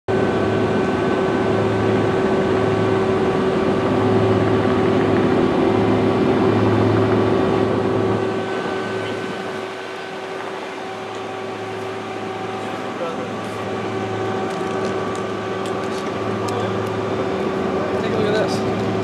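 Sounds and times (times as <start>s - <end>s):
faint whine: 0.1s - 19.0s
machine drone: 0.1s - 19.0s.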